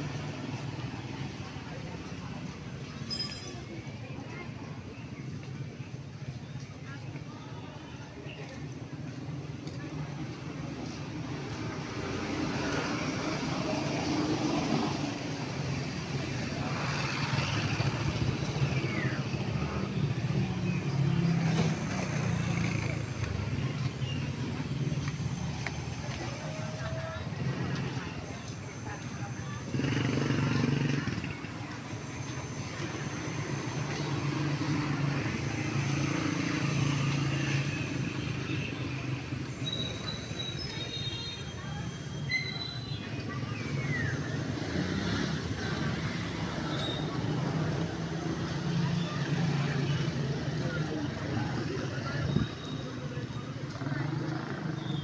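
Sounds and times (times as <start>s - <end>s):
outdoor noise: 0.0s - 55.0s
road noise: 0.0s - 55.0s.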